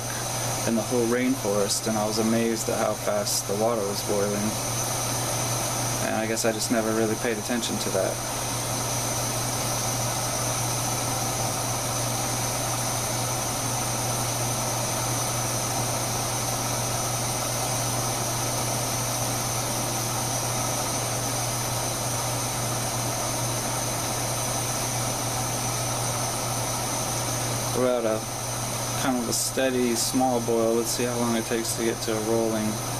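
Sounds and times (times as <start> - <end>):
camping stove burner hissing: 0.0 - 32.9.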